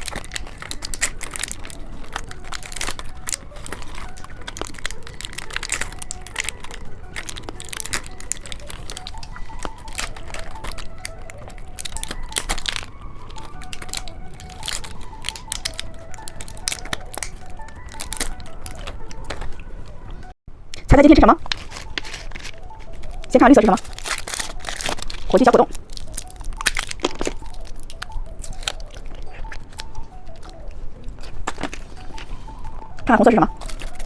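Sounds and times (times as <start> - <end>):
plastic packaging crinkling and tearing: 0.0 - 20.0, 20.8 - 34.0.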